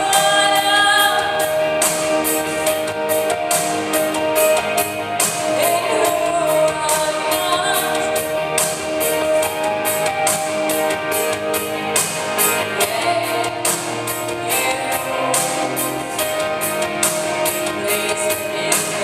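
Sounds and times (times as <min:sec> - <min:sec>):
drum and cymbal beat: 0:00.0 - 0:19.0
gospel band playing: 0:00.0 - 0:19.0.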